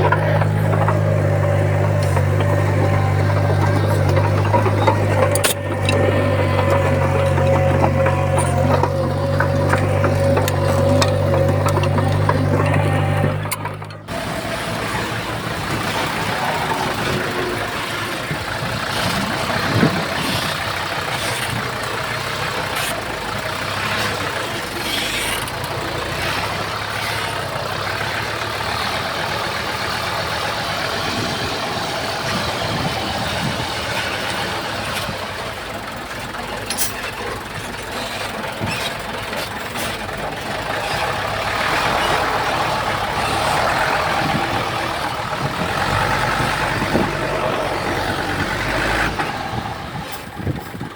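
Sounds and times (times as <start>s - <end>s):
bulldozer diesel engine running: 0.0s - 50.9s.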